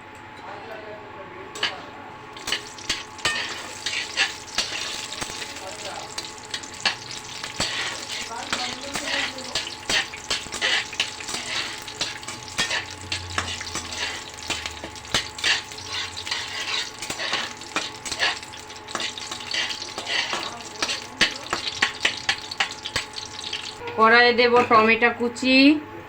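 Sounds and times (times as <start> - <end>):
spices sizzling in oil: 1.6 - 24.9
spatula scraping a pan: 2.4 - 24.8.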